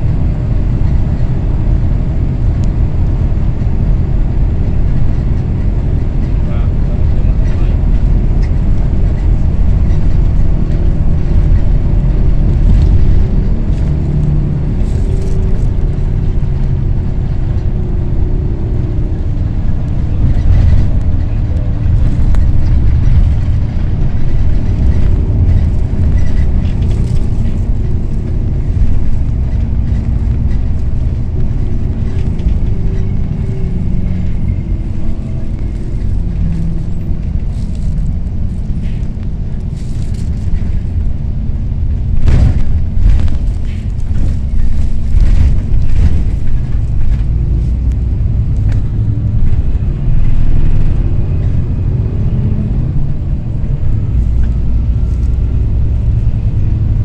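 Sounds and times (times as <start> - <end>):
coach engine and road rumble: 0.0 - 57.0.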